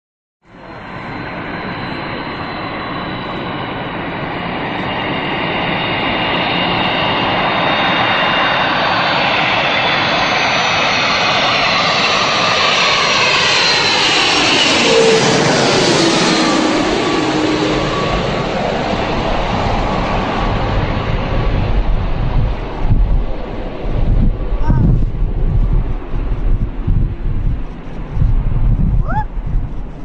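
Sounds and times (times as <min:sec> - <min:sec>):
airplane engines: 0:00.4 - 0:30.0.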